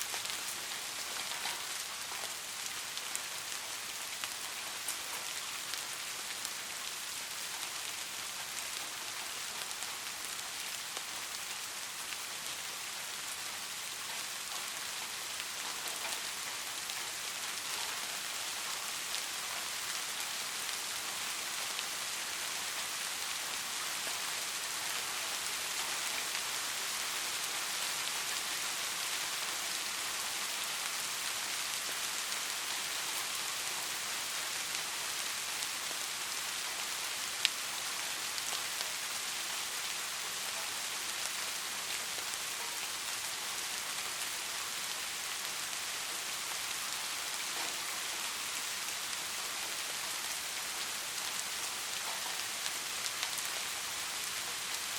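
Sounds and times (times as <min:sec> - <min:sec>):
rain pattering on a surface: 0:00.0 - 0:54.9.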